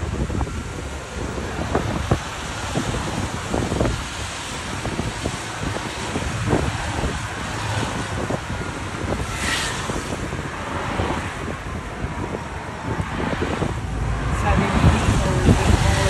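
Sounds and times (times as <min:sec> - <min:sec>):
golf cart rumble: 0:00.0 - 0:16.0
wind buffeting microphone: 0:00.0 - 0:16.0.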